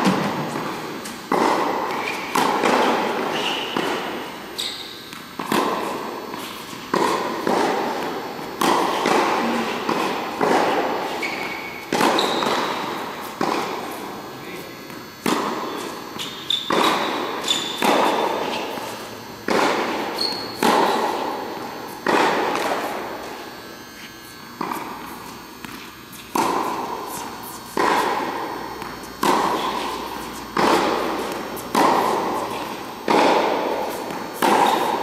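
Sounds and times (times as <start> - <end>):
tennis ball bouncing on court: 0.0 - 14.2, 14.8 - 35.0
tennis ball struck by racquets: 1.3 - 14.2, 14.8 - 23.4, 24.6 - 35.0.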